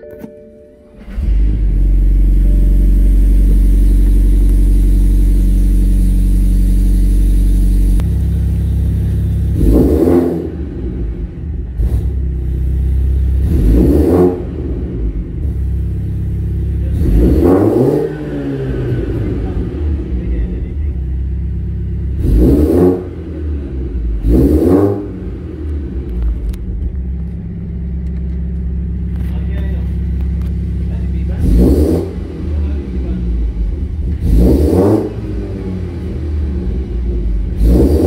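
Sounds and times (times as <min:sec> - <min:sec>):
car engine idling: 0:00.0 - 0:38.0
car engine starting: 0:00.0 - 0:38.0
car engine revving: 0:00.8 - 0:38.0.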